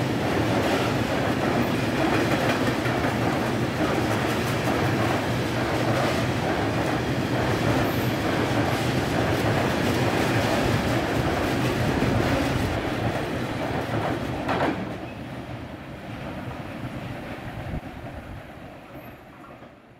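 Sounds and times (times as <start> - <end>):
freight train wheels rumbling: 0.0 - 19.9.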